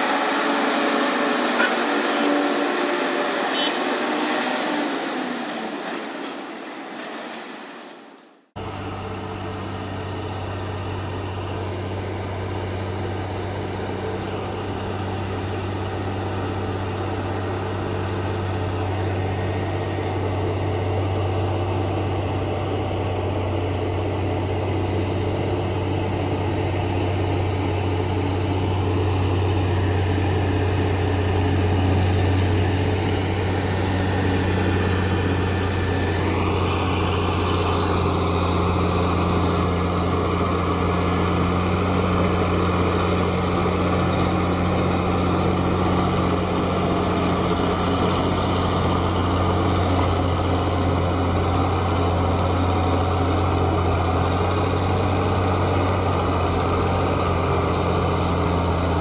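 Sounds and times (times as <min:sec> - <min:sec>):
truck diesel engine running: 0:08.6 - 0:59.0.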